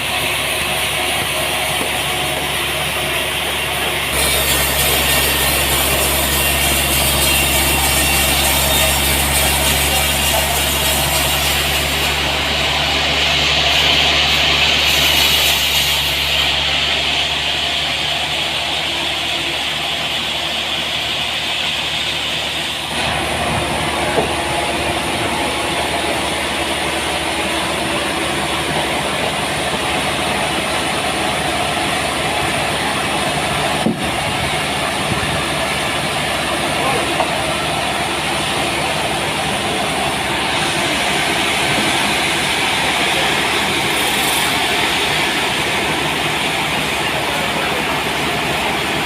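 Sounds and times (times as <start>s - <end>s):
sawmill machinery sawing log: 0.0s - 49.0s.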